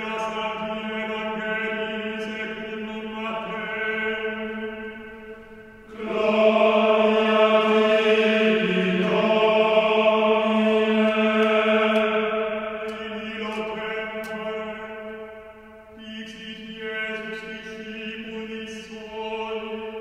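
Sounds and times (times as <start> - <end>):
voices chanting a held note: 0.0 - 20.0.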